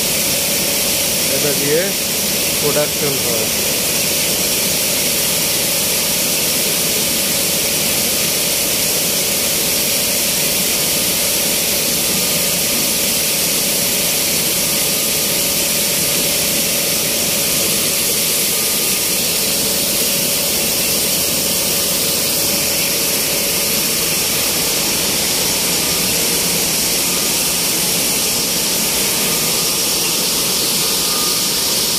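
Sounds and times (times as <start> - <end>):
mill machinery hum and hiss: 0.0 - 31.9.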